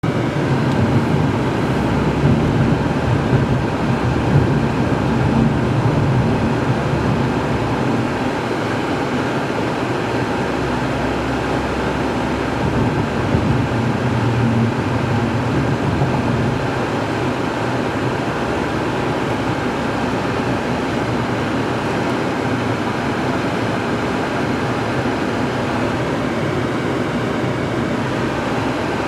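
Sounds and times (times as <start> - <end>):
car road and engine noise: 0.0 - 29.0
low hum: 0.0 - 29.0.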